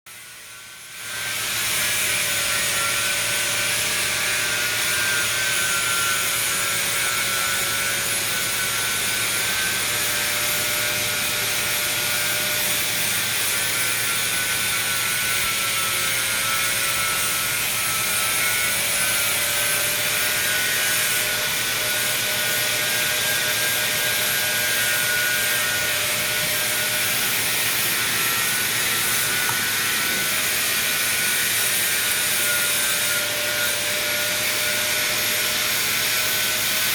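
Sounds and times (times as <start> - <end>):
drilling machine whine: 0.1 - 36.9.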